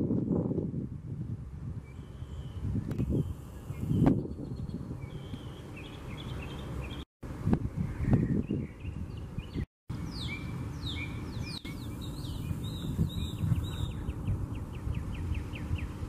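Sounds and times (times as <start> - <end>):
songbird singing: 1.8 - 7.1, 7.8 - 16.0.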